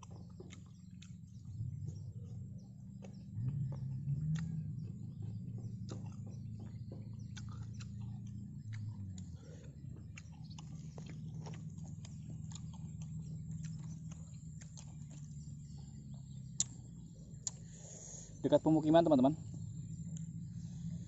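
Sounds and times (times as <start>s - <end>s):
chewing mouth clicks: 0.0s - 2.4s, 3.0s - 18.0s
low steady hum: 0.0s - 21.0s.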